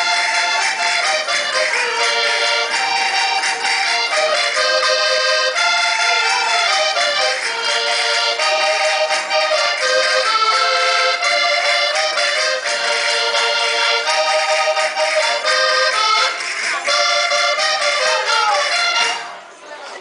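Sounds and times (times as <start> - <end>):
accordion folk dance music: 0.0 - 20.0.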